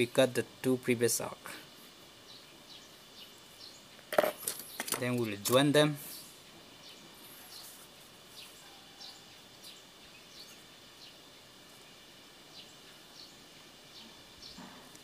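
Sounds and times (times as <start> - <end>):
faint background hiss: 0.0 - 15.0
small birds chirping: 0.0 - 15.0.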